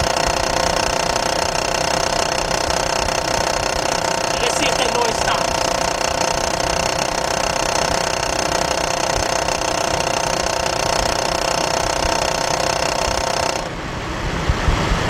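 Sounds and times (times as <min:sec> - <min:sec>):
car engine running: 0:00.0 - 0:13.8
metallic rattle and whine: 0:00.0 - 0:14.0.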